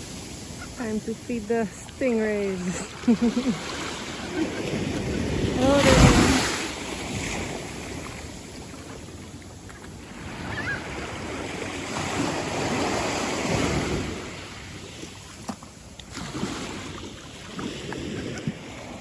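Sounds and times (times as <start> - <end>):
wind on microphone: 0.0 - 15.2, 16.2 - 19.0
small waves washing in: 0.0 - 19.0.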